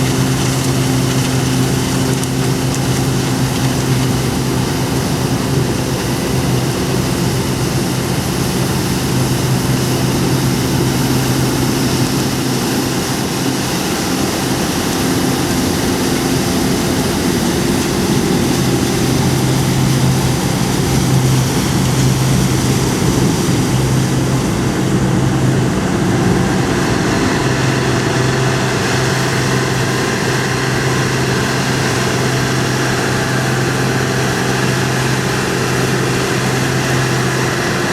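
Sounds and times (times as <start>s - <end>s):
combine harvester engine droning: 0.0s - 37.9s.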